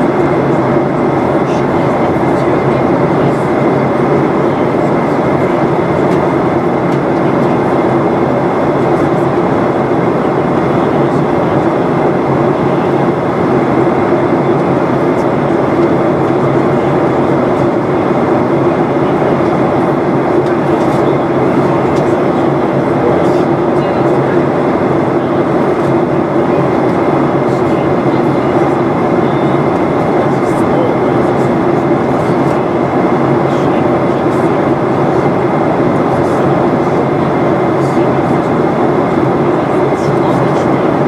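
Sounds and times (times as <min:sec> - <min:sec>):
faint steady whine: 0:00.0 - 0:41.0
jet engine rumble: 0:00.0 - 0:41.0.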